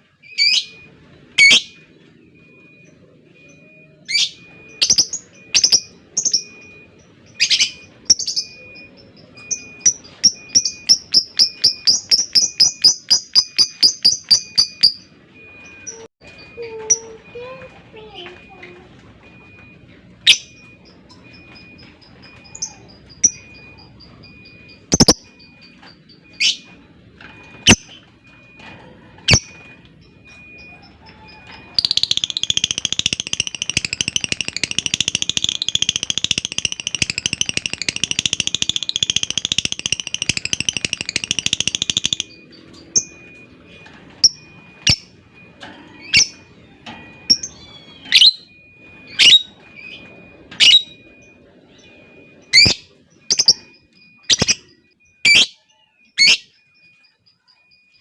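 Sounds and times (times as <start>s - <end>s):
lovebird chirping and trilling: 0.2s - 1.9s, 3.5s - 16.0s, 20.2s - 26.8s, 29.3s - 43.4s, 44.2s - 45.2s, 46.0s - 46.5s, 47.2s - 58.0s.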